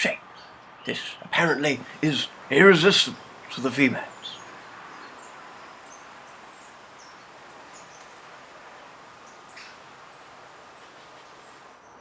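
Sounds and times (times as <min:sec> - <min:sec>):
steady background hiss: 0:00.0 - 0:11.8.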